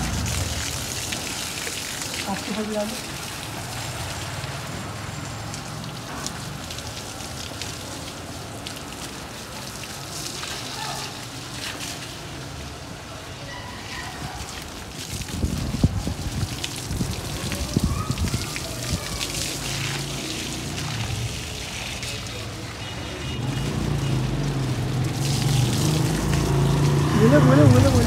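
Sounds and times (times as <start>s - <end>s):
garden hose water splashing: 0.0s - 28.0s.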